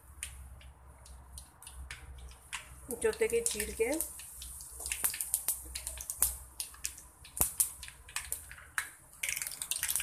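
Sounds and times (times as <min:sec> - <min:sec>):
seeds popping in hot oil: 0:00.0 - 0:10.0
faint oil sizzle: 0:01.4 - 0:10.0.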